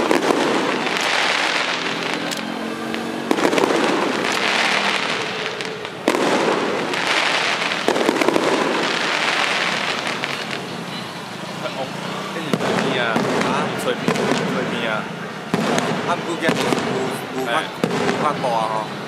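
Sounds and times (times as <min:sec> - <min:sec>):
fireworks bangs: 0:00.0 - 0:19.0
fireworks crackling fizz: 0:00.0 - 0:19.0.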